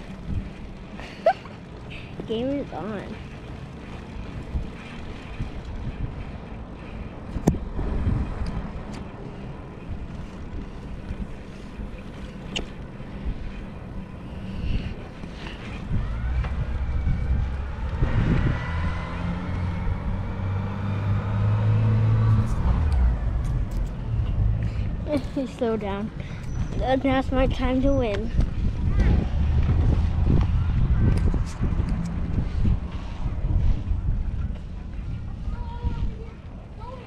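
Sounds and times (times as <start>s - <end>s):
motor vehicle hum: 0.0s - 37.0s
wind buffeting microphone: 0.0s - 37.0s.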